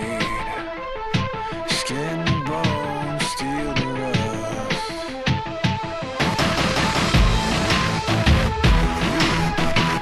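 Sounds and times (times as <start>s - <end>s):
heavy driving instrumental music: 0.0s - 10.0s.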